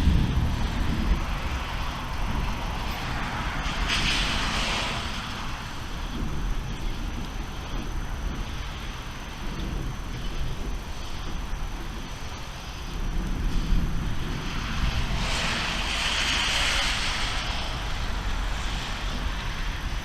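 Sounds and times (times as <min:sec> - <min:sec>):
low thunder rumble: 0:00.0 - 0:20.0
rain hissing: 0:00.0 - 0:20.0.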